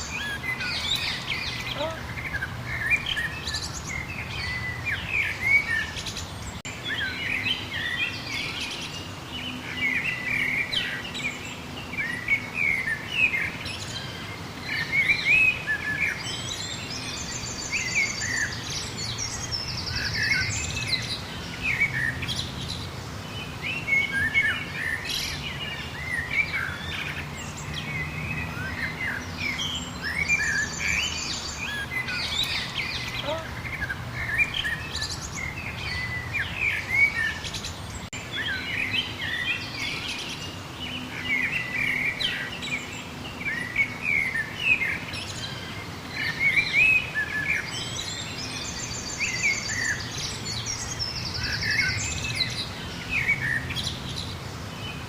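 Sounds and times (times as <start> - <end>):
songbirds chirping and whistling: 0.0 - 55.0.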